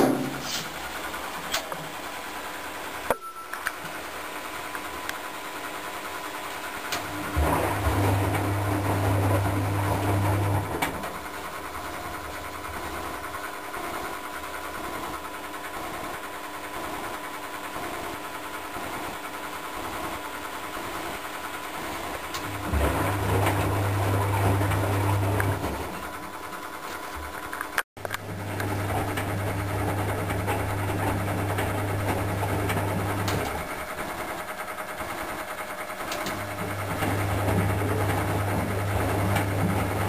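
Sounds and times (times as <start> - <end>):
washing machine drum motor hum: 0.0 - 3.1, 3.7 - 40.0.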